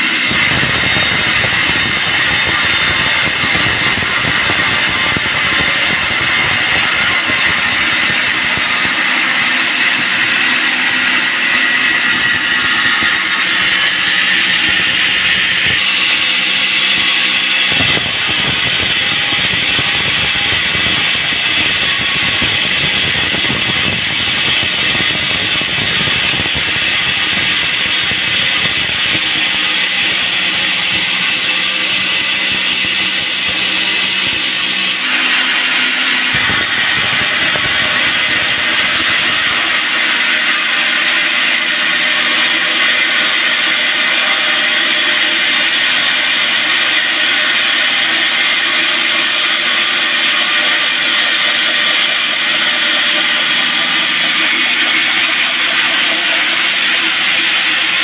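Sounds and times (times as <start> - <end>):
band saw blade cutting log: 0.0 - 58.0.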